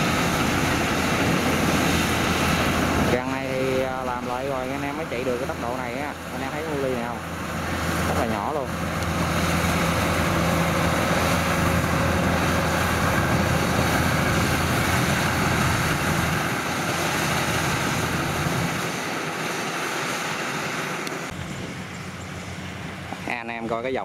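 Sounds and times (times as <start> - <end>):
threshing machinery rushing: 0.0 - 23.5
diesel engine hum: 0.0 - 24.0.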